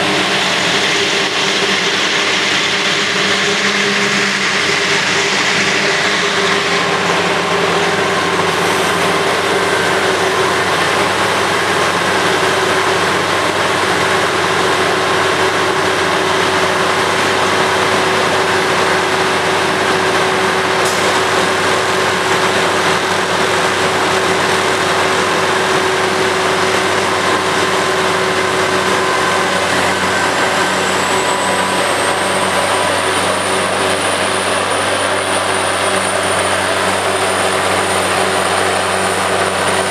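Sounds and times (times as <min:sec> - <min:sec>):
forage harvester droning: 0:00.0 - 0:39.9
high machine whine: 0:00.0 - 0:39.9.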